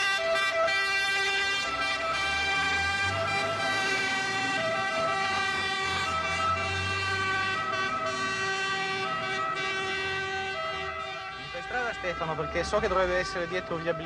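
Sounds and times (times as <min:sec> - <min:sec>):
fire engine siren: 0:00.0 - 0:14.0.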